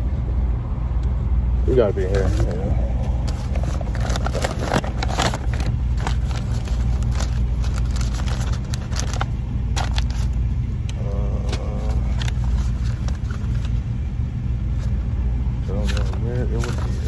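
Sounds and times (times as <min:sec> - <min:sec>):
car engine idling: 0:00.0 - 0:17.0
rummaging through papers: 0:01.8 - 0:10.5, 0:11.3 - 0:17.0.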